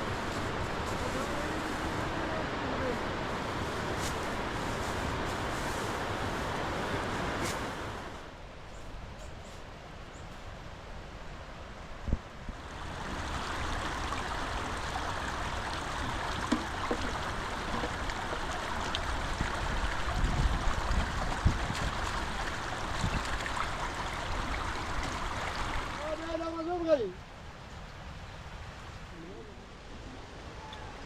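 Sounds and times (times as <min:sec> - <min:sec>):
running water rushing: 0:00.0 - 0:08.4, 0:12.3 - 0:31.0.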